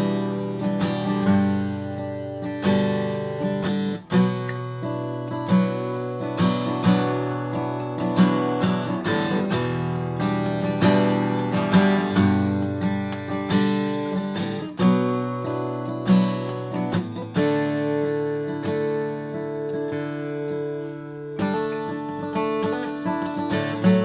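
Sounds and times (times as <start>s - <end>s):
acoustic guitar picking and chords: 0.0s - 24.0s.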